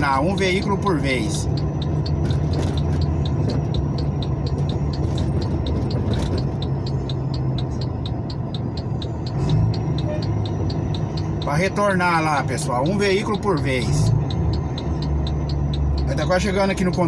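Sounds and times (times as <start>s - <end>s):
faint regular ticking: 0.0s - 17.0s
vehicle engine running: 0.0s - 17.0s.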